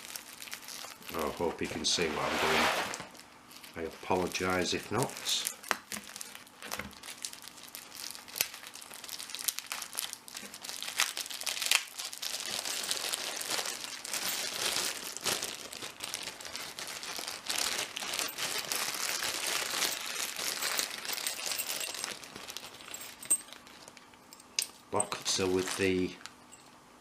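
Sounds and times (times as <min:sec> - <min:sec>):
packaging crinkling and rustling: 0:00.0 - 0:26.4.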